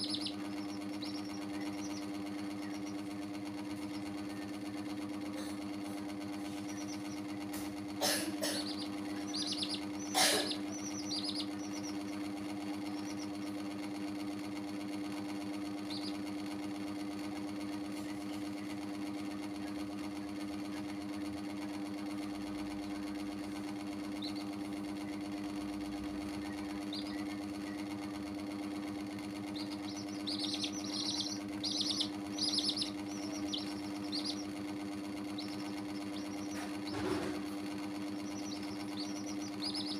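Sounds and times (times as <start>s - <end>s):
baby chicks peeping: 0.0s - 18.9s, 19.6s - 39.9s
small motor humming: 0.0s - 39.9s.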